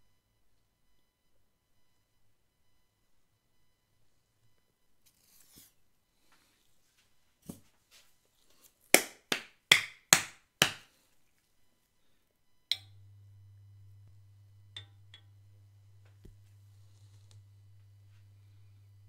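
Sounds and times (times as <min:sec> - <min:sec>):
faint low hum: 0:00.0 - 0:08.8, 0:10.8 - 0:19.0.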